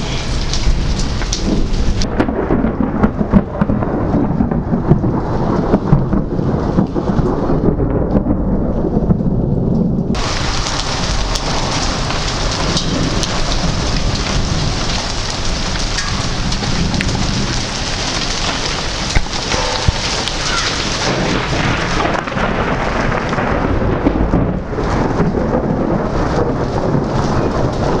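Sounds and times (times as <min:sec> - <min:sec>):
raindrops ticking: 0:00.0 - 0:07.1, 0:10.1 - 0:28.0
heavy rain hissing: 0:00.0 - 0:07.6, 0:10.2 - 0:28.0
thunder rumbling: 0:00.0 - 0:28.0.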